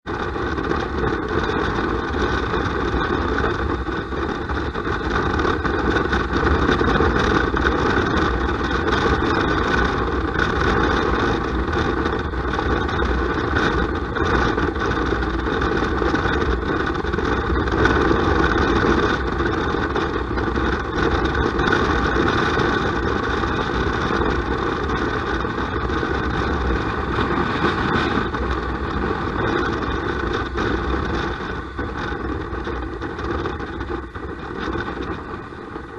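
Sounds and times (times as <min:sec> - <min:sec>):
motorcycle engine: 0:00.0 - 0:35.9
strong wind: 0:00.0 - 0:35.9.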